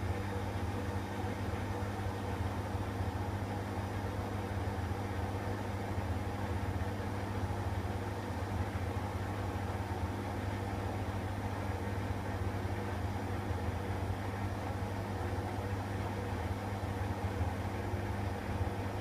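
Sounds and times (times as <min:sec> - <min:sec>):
washer-dryer motor hum: 0:00.0 - 0:19.0.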